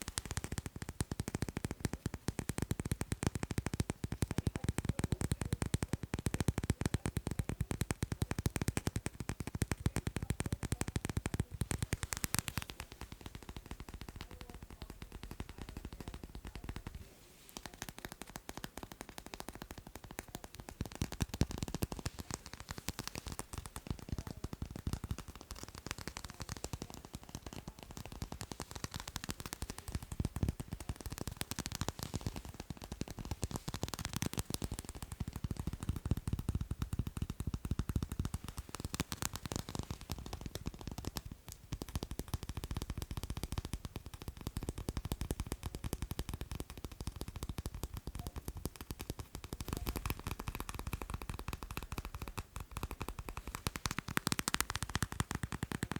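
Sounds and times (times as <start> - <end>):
fast tapping on crisp shells: 0.0 - 55.9.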